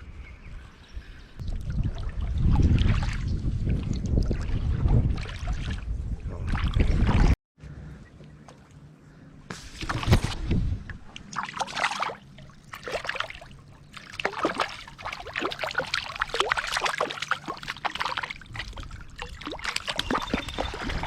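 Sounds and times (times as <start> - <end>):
water splashing and trickling: 1.4 - 7.4, 8.4 - 21.0.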